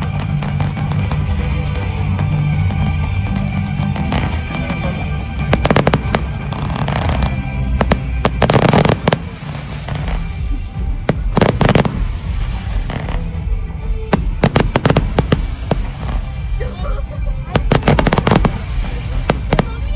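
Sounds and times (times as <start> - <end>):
fireworks bangs and crackle: 0.0 - 19.9
loud music: 0.0 - 19.9.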